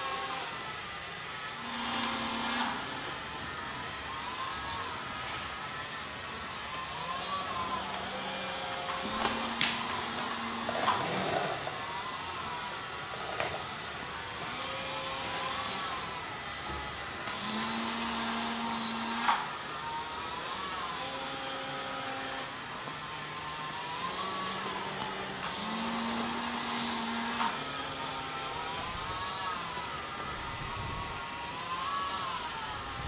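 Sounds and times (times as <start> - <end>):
small electric motors whirring: 0.0 - 33.0.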